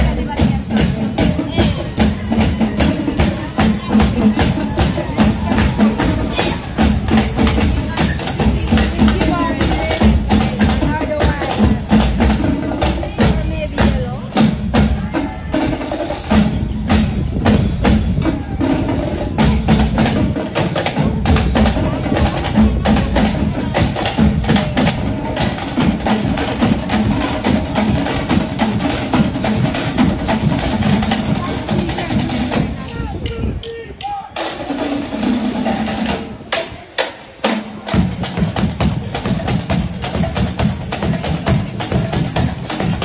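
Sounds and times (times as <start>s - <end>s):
marching drums playing: 0.0s - 43.0s.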